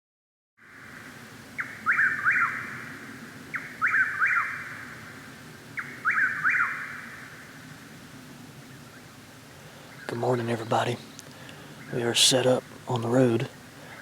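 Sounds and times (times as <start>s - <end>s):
bird singing three-part song: 0.8s - 7.8s, 8.6s - 14.0s.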